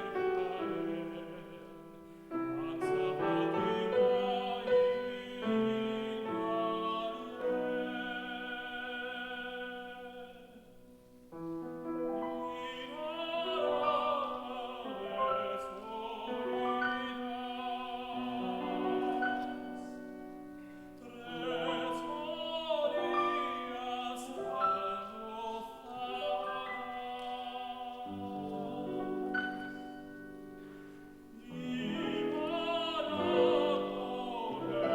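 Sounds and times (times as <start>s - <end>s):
tenor singing with vibrato: 0.0s - 10.8s, 11.8s - 34.9s
piano accompaniment: 0.0s - 34.9s.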